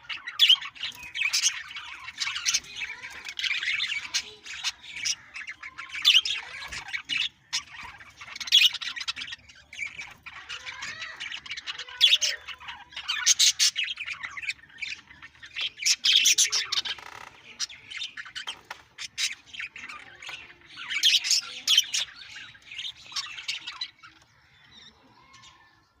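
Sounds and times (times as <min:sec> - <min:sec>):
parrots chattering and squawking: 0:00.0 - 0:26.0
quiet bird chirps: 0:00.0 - 0:26.0.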